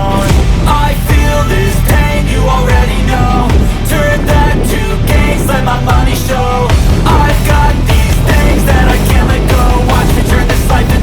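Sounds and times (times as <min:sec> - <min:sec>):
distorted guitars: 0:00.0 - 0:11.0
driving drum beat: 0:00.0 - 0:11.0
loud rock music: 0:00.0 - 0:11.0.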